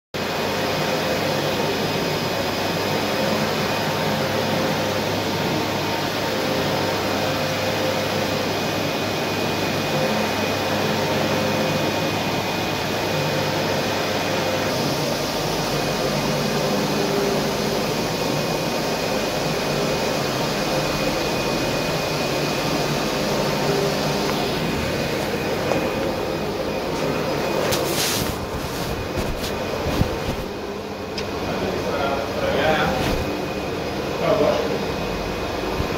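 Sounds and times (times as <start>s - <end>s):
printer fans blowing hum: 0.2s - 35.9s.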